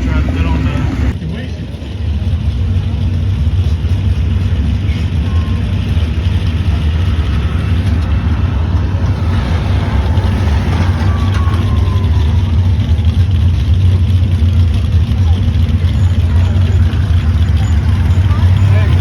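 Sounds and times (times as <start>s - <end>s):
faint engine whine: 0.0s - 19.0s
heavy vehicle engine rumbling: 0.0s - 19.0s.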